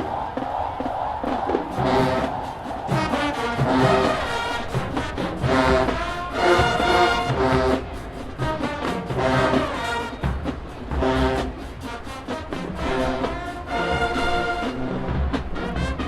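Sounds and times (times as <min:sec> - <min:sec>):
drumline beat: 0:00.0 - 0:16.0
marching band brass: 0:00.0 - 0:16.0.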